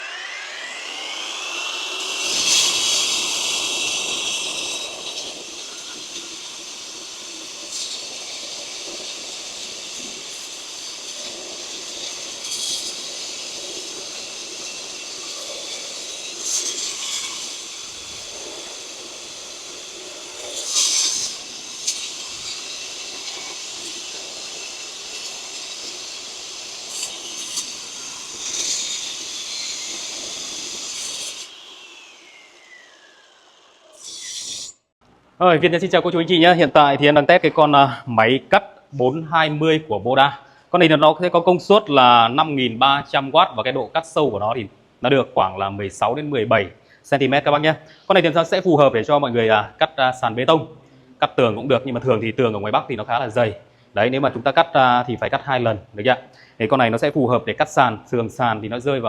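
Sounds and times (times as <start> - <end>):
concrete wall saw whining: 0.0 - 35.0, 36.0 - 59.0.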